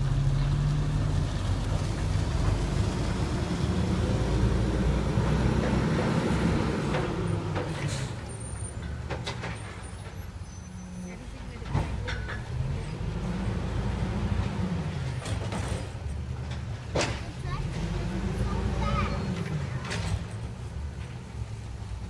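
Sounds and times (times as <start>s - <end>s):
garbage truck engine driving away: 0.0s - 22.0s.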